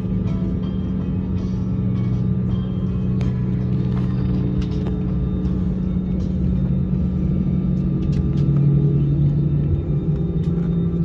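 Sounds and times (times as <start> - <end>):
jet engines humming in cabin: 0.0 - 11.0.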